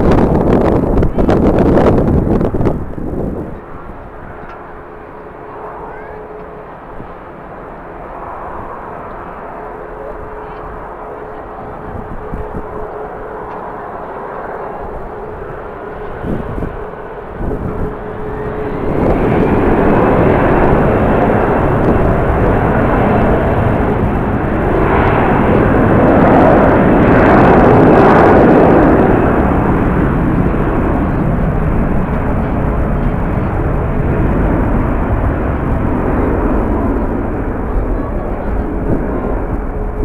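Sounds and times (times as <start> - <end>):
jet engine high whine: 0.0 - 40.0
jet engines roaring: 0.0 - 40.0.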